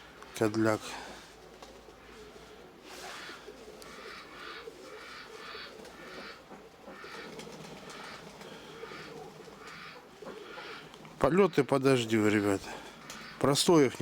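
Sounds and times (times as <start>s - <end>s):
pigeons cooing: 0.0s - 14.0s
soft rustling hiss: 0.0s - 14.0s.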